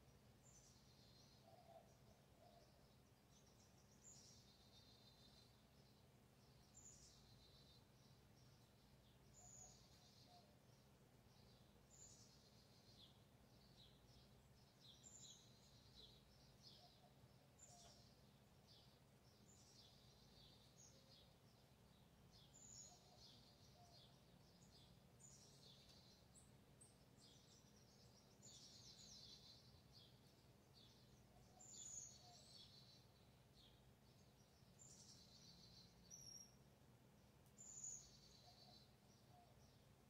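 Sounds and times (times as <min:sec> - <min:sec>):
faint birdsong chirps: 0:00.0 - 0:40.0.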